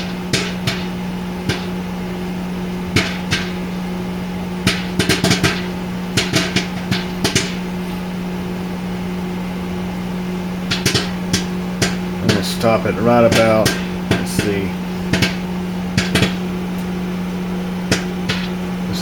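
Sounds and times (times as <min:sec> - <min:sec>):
microwave oven hum: 0:00.0 - 0:19.0
popcorn popping: 0:00.0 - 0:19.0.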